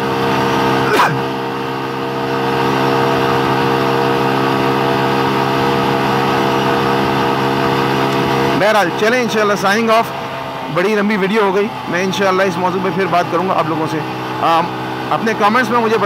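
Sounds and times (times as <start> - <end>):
motorcycle engine cruising: 0.0 - 16.0
wind and road noise: 0.0 - 16.0.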